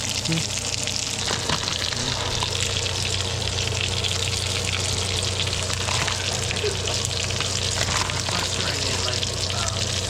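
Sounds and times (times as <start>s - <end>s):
food sizzling in a hot pan: 0.0s - 10.0s
steady low hum: 0.0s - 10.0s.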